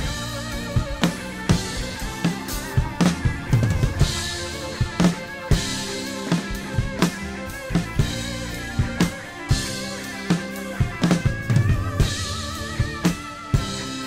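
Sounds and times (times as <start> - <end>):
drum kit blues-rock groove: 0.0 - 14.0
guitar: 0.0 - 14.0.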